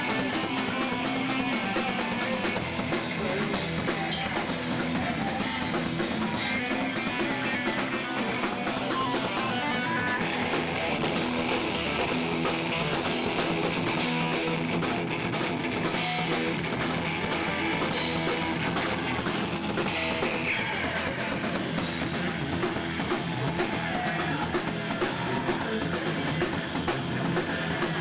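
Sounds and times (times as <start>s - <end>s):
drum kit: 0.0s - 28.0s
electric guitar: 0.0s - 28.0s.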